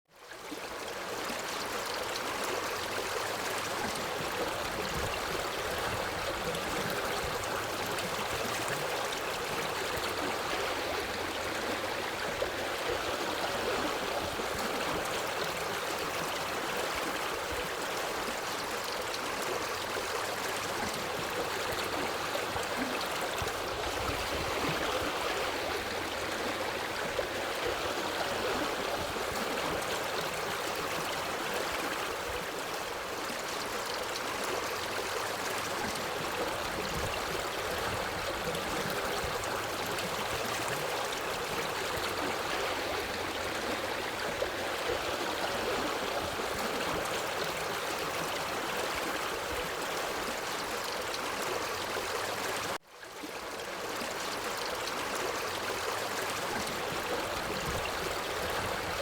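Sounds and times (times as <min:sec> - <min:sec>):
stream water rushing: 0:00.2 - 0:59.0.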